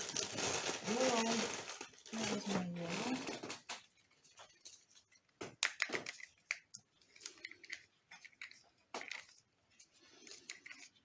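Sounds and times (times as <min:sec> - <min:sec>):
small tools clicking and scraping: 0:00.0 - 0:11.0.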